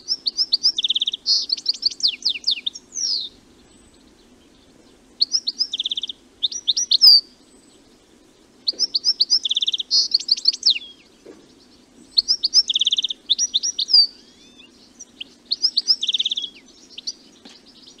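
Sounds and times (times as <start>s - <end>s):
goldfinch singing: 0.0s - 8.0s, 8.6s - 18.0s.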